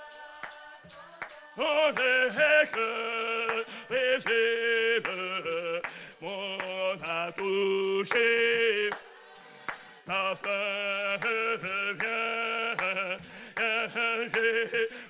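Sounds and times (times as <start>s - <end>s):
man singing a hymn: 1.6s - 9.0s, 10.1s - 15.0s.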